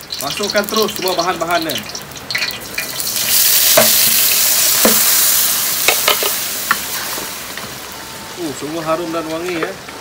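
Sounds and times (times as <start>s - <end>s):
paste sizzling in hot oil: 0.0s - 9.2s.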